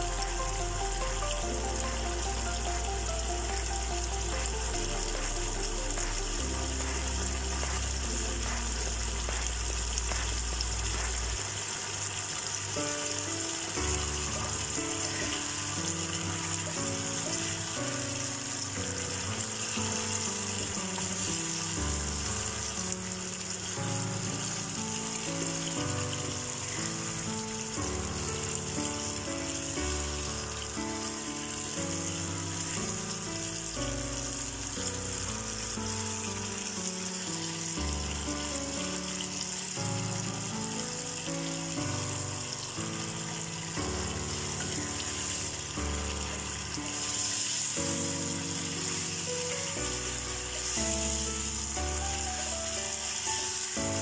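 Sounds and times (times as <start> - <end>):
background music with held notes: 0.0 - 54.0
meat sizzling in a pan: 0.0 - 54.0.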